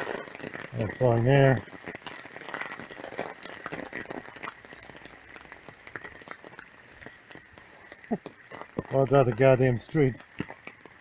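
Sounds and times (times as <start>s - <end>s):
heavy rain: 0.0s - 11.0s
raindrops ticking on surfaces: 0.0s - 11.0s.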